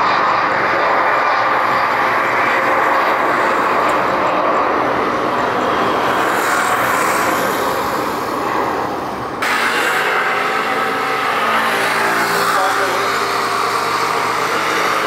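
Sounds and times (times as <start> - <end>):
jet airliner engines running: 0.0 - 15.0.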